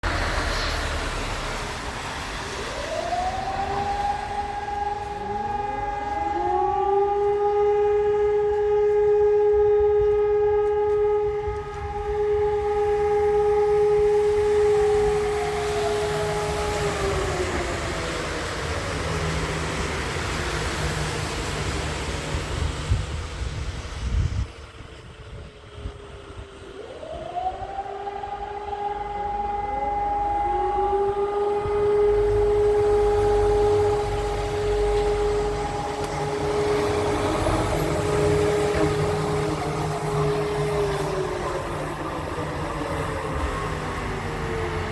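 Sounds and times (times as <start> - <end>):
alarm siren wailing: 0.0 - 44.9.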